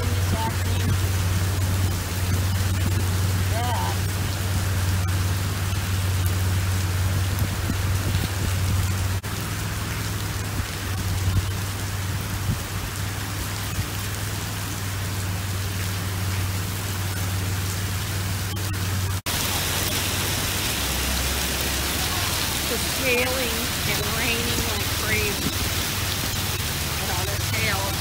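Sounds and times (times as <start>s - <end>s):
constant low hum: 0.0s - 28.0s
heavy rain and hail splashing: 0.0s - 28.0s.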